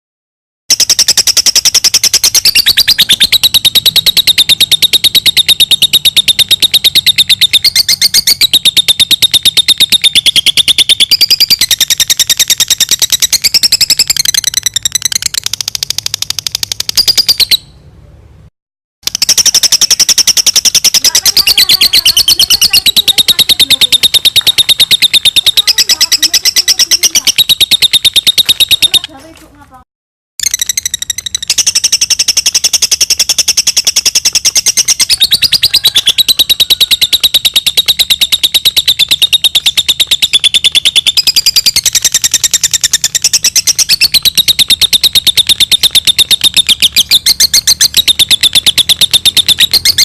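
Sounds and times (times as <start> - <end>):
lovebird chattering: 0.7 - 17.7, 19.0 - 29.4, 30.4 - 50.0.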